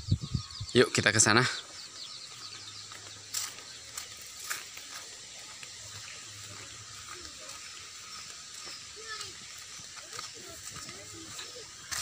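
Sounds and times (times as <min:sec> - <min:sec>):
faint bird chirps: 0:00.0 - 0:12.0
footsteps on dirt path: 0:01.2 - 0:12.0.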